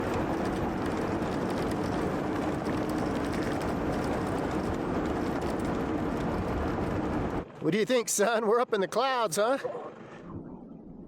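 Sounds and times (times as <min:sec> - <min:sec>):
road noise: 0:00.0 - 0:09.0.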